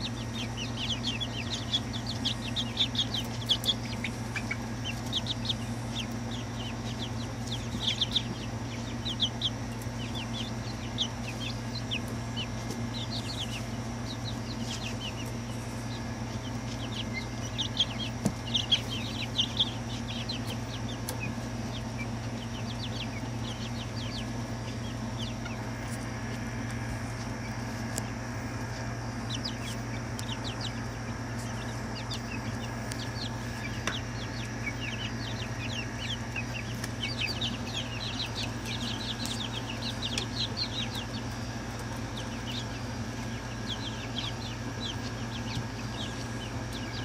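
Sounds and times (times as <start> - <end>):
chicks peeping: 0.0 - 47.0
steady low hum: 0.0 - 47.0.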